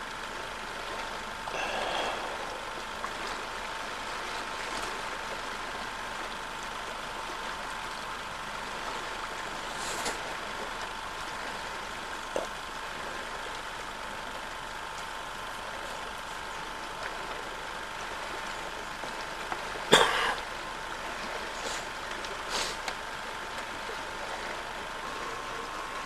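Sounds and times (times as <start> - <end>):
camcorder hiss and whine: 5.0 - 26.0.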